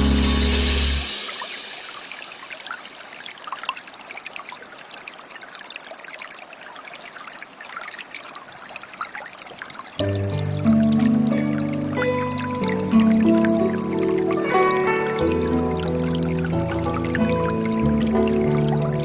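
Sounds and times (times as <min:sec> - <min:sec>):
small stream trickling and babbling: 0:01.0 - 0:19.0.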